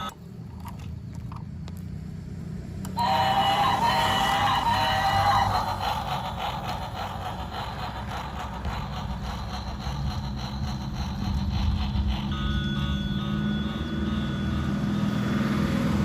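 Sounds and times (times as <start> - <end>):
low mechanical rumble: 0.0 - 16.0
steady tones: 2.9 - 15.8.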